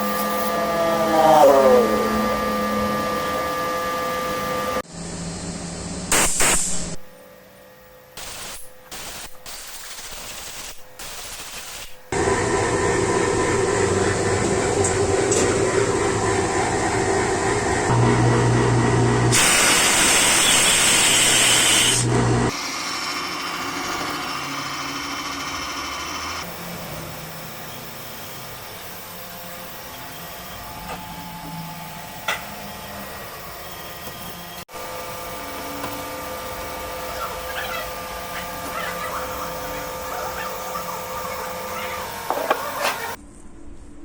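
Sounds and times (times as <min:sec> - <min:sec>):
steady machine hum: 0:00.0 - 0:09.6, 0:12.0 - 0:44.0.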